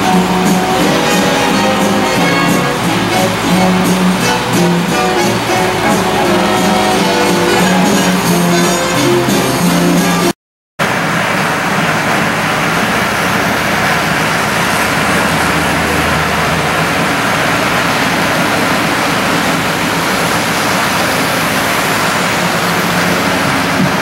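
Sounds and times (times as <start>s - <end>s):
model trains running on track: 0.0s - 24.0s.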